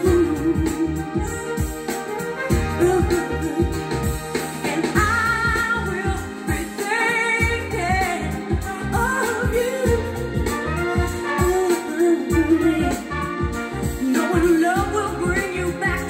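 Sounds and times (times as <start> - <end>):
pop song with vocals: 0.0 - 16.0.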